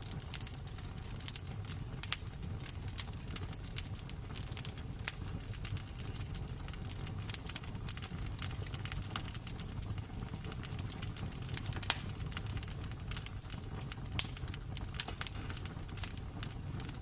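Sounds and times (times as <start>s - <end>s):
sharp fire pops: 0.0s - 17.0s
wood fire crackling: 0.0s - 17.0s.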